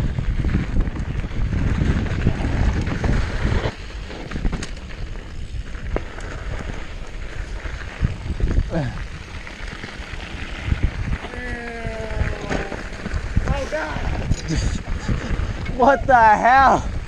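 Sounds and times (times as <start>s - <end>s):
bike clicks and rattles: 0.0s - 15.8s
wind buffeting microphone: 0.0s - 17.0s.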